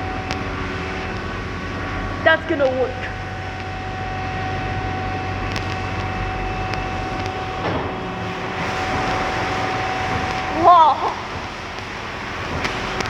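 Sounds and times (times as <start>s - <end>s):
car wash machine whine: 0.0s - 13.0s
constant rushing noise: 0.0s - 13.0s
hissing water spray: 0.0s - 13.0s.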